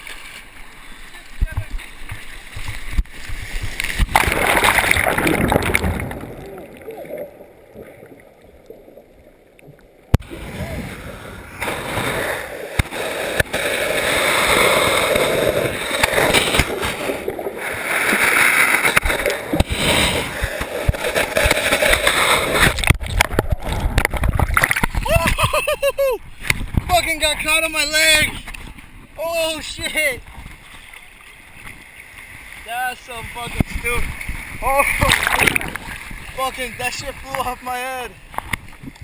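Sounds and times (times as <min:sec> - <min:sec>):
muffled underwater rushing water: 0:00.0 - 0:39.0.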